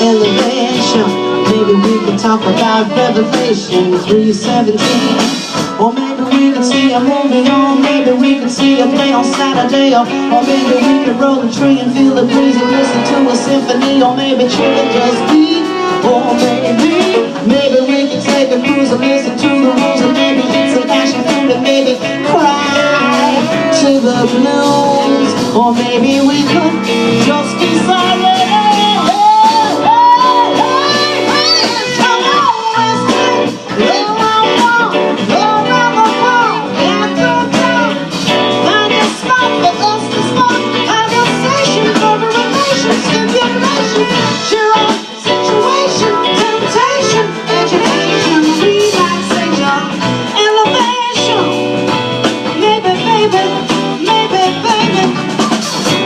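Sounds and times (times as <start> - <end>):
live band playing instrumental: 0.0 - 56.0
sliding lead melody: 0.0 - 56.0.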